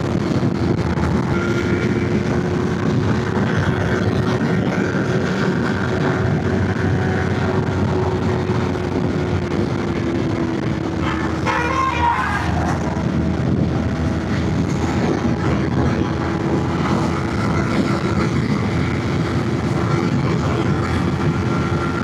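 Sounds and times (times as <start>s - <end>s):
motorcycle engine cruising: 0.0s - 22.0s
wind rushing over microphone: 0.0s - 22.0s.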